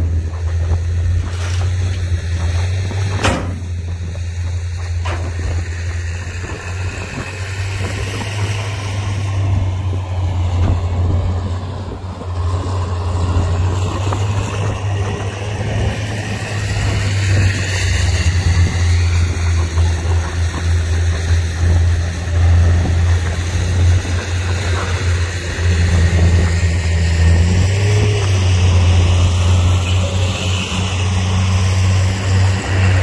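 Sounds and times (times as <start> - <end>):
diesel machinery engine drone: 0.0 - 33.0.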